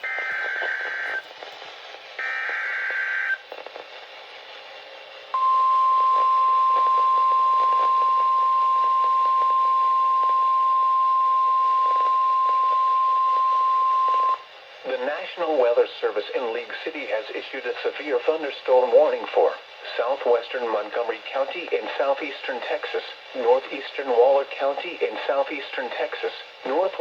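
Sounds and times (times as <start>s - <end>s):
faint radio static: 0.0s - 10.5s, 11.3s - 27.0s.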